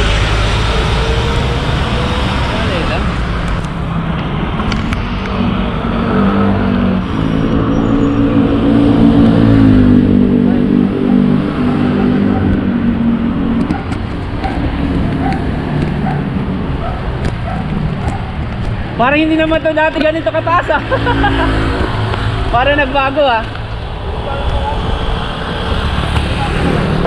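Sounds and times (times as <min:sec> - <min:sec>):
wind and road rumble: 0:00.0 - 0:27.0.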